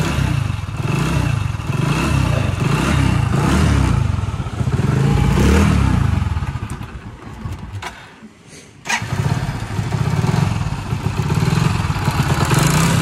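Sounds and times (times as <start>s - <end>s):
motorcycle engine revving: 0.0s - 7.8s, 8.8s - 13.0s.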